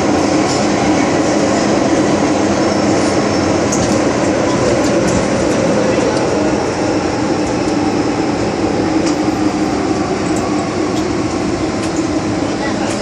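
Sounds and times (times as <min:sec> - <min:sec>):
subway car rumbling in tunnel: 0:00.0 - 0:13.0.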